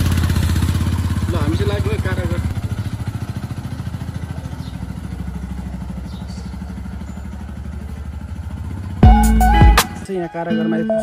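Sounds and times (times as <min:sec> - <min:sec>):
three-wheeler engine chugging: 0:00.0 - 0:09.8.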